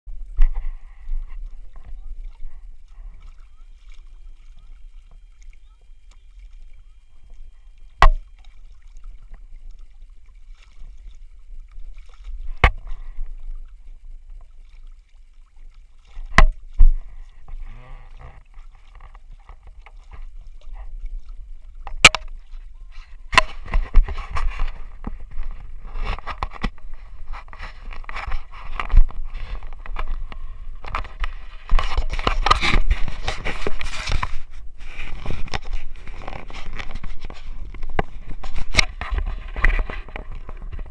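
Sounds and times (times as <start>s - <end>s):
wind rumbling on microphone: 0.1s - 14.6s, 15.6s - 40.9s
water splashing: 0.1s - 40.9s.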